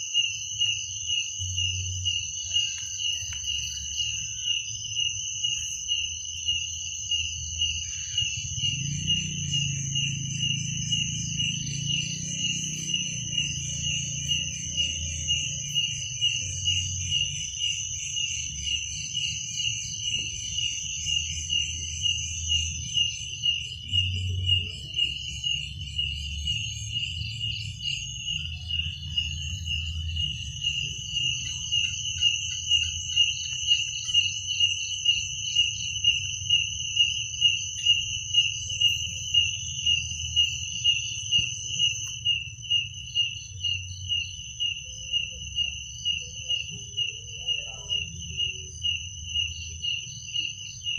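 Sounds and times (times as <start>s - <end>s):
continuous insect trill: 0.0s - 50.9s
crickets chirping: 0.0s - 50.9s.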